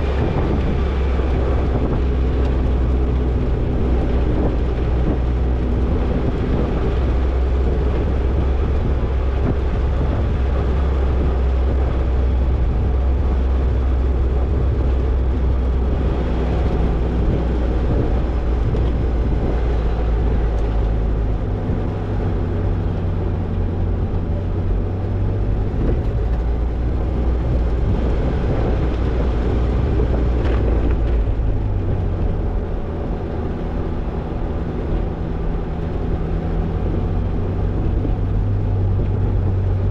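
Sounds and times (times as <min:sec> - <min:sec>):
car engine under load: 0:00.0 - 0:39.9
road and tyre noise: 0:00.0 - 0:39.9.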